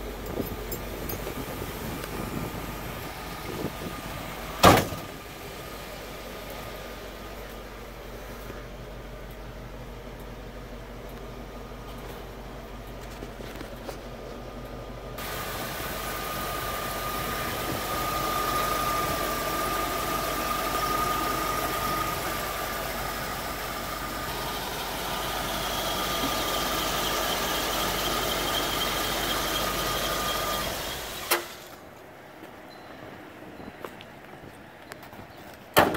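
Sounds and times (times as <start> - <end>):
truck engine idling: 0.0 - 32.3.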